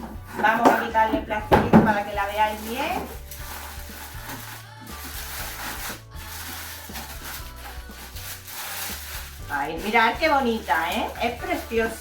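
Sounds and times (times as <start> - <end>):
background music: 0.0 - 12.0
plastic film crinkling: 1.8 - 12.0.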